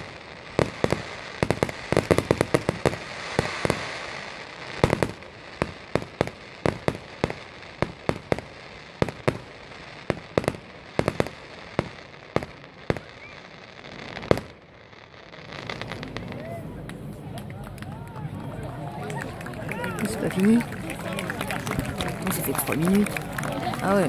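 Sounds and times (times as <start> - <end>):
fireworks crackle: 0.0 - 24.0.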